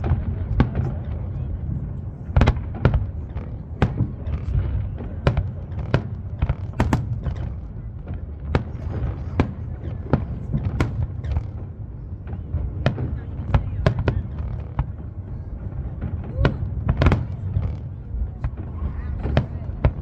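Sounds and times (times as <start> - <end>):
distant rumbling booms: 0.0 - 20.0.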